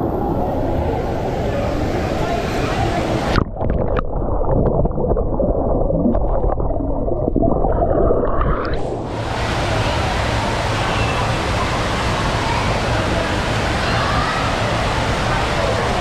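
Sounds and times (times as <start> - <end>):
muffled underwater rush: 0.0 - 16.0.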